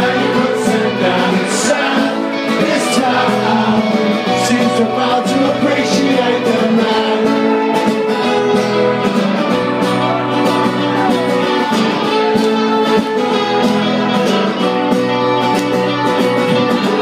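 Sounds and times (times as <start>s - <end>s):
strummed guitars: 0.0s - 17.0s
bass and drums: 2.5s - 17.0s.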